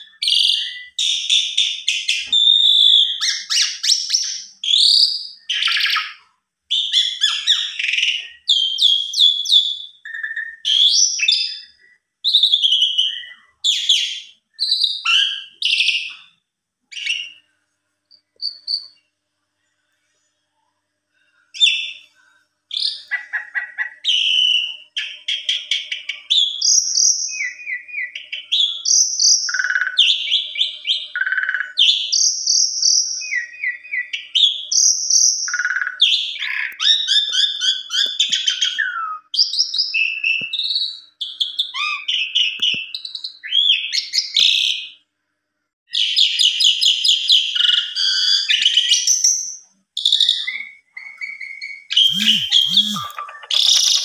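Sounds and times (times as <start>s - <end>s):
starling singing whistles and chatter: 0.0s - 16.2s, 18.2s - 19.0s, 22.8s - 44.8s, 45.9s - 54.0s.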